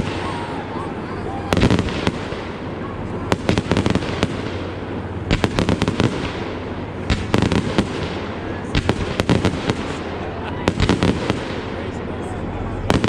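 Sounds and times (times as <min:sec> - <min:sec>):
background rumble: 0:00.0 - 0:13.0
fireworks cracking and crackling: 0:00.0 - 0:13.0.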